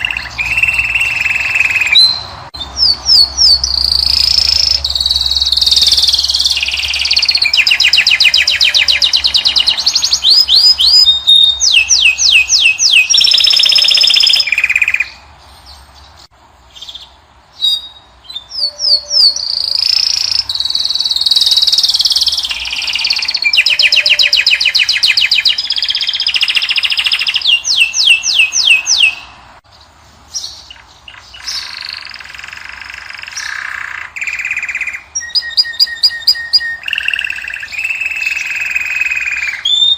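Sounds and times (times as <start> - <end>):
finch singing trills and whistles: 0.0 - 29.4, 30.3 - 39.9.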